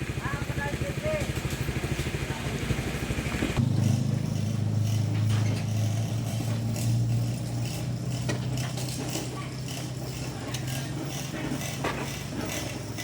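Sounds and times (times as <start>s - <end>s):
chainsaw engine idling: 0.0s - 13.0s.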